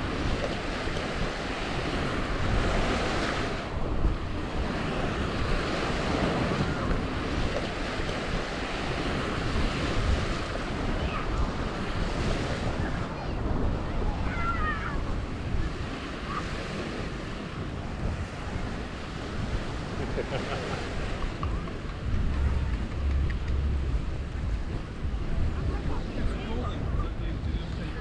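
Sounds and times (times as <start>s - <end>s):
surf washing onto beach: 0.0s - 28.0s
wind rumbling on microphone: 0.0s - 28.0s.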